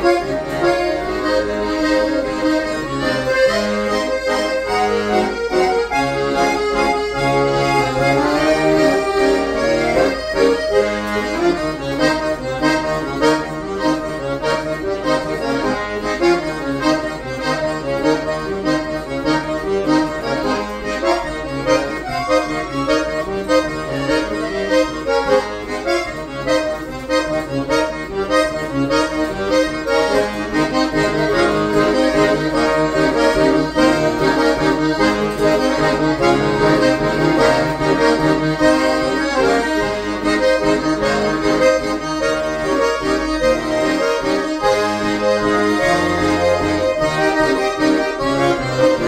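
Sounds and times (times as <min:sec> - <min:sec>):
accordions playing a tune: 0:00.0 - 0:49.0.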